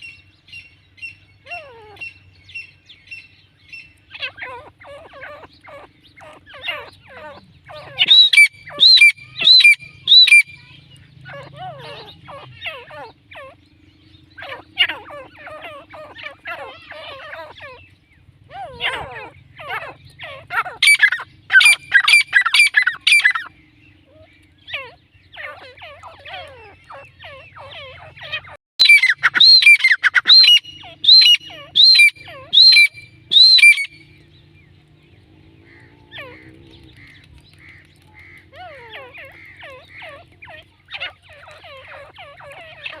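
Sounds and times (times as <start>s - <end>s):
faint bird chirping: 0.0s - 43.0s
francolin calling: 0.0s - 43.0s.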